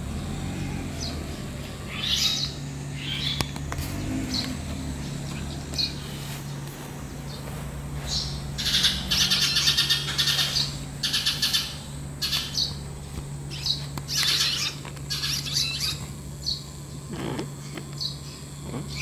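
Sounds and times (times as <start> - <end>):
swallows chattering: 0.3 - 6.6, 7.2 - 19.0.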